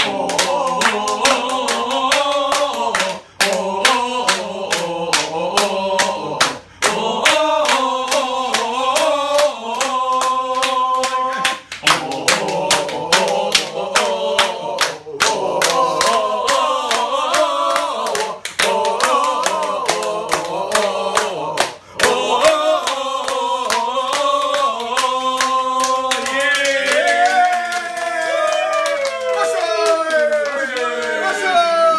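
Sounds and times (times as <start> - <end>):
men singing together: 0.0 - 28.2
sharp hand claps: 0.0 - 31.6.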